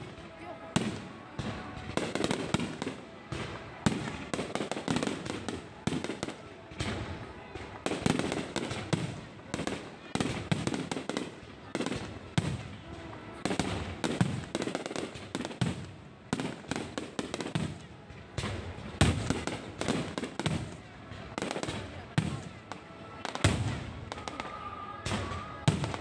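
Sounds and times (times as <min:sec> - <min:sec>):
fireworks bangs with echo: 0:00.0 - 0:26.0.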